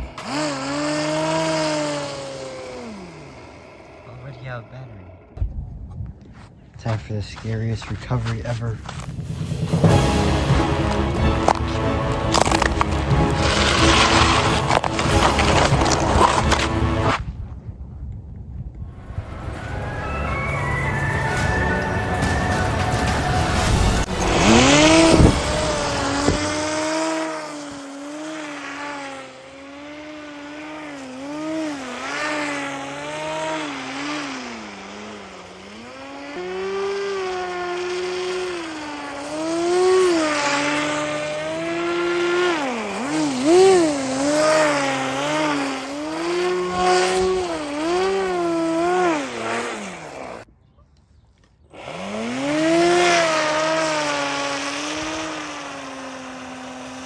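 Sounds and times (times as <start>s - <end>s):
rc car motor revving: 0.0s - 5.4s, 8.4s - 17.2s, 22.2s - 50.5s, 51.7s - 57.0s.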